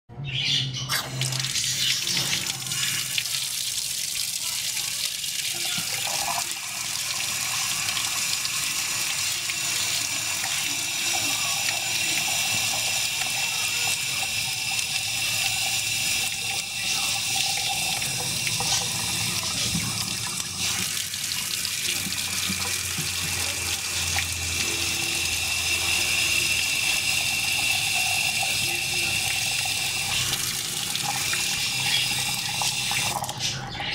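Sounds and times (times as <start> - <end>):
faucet water running: 0.9 - 33.9.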